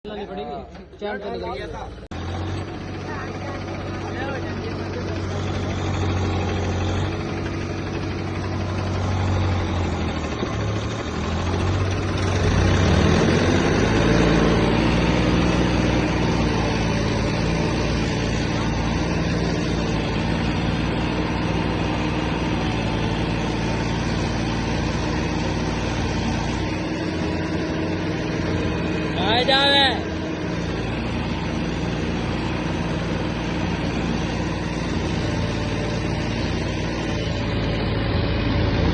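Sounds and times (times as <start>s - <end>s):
diesel tractor engine revving: 0.1s - 38.9s.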